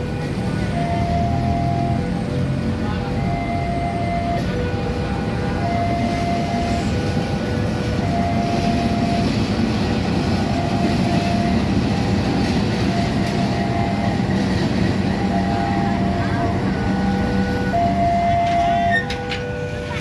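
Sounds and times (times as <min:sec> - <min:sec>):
locomotive engine rumble: 0:00.0 - 0:20.0.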